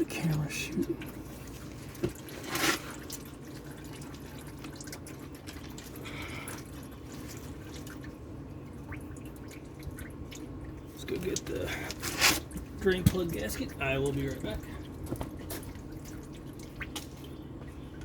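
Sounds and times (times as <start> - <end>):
oil trickling into drain pan: 0.0 - 18.0.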